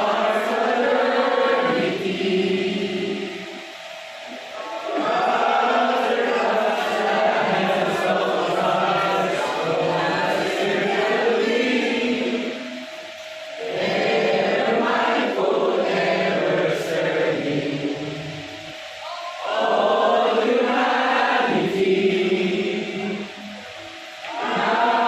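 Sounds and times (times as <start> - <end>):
group singing in chorus: 0.0 - 25.0.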